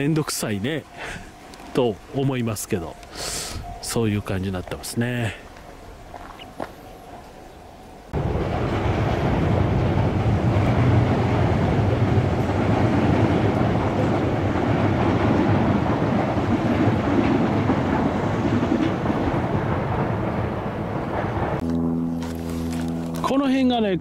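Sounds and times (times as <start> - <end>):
electric train wheels on rails: 0.0 - 23.4.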